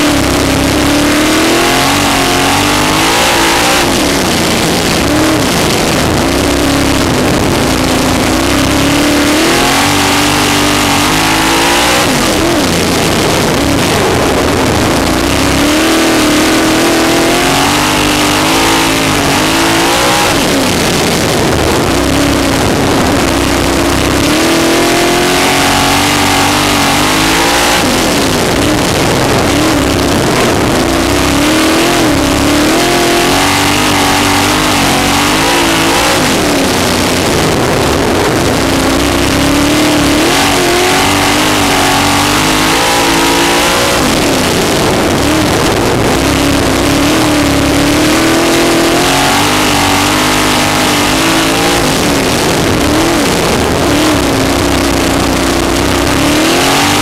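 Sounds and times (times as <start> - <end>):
constant rushing noise: 0.0 - 57.0
race car engine revving: 0.0 - 57.0.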